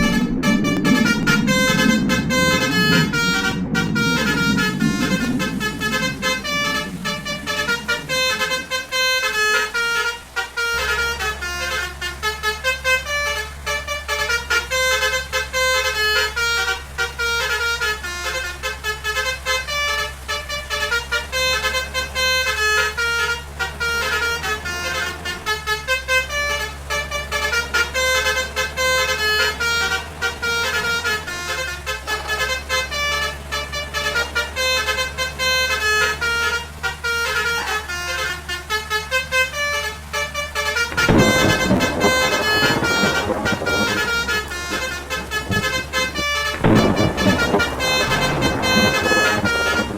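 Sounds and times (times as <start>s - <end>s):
low engine drone: 0.0s - 49.9s
musical air horns playing tune: 0.0s - 49.9s.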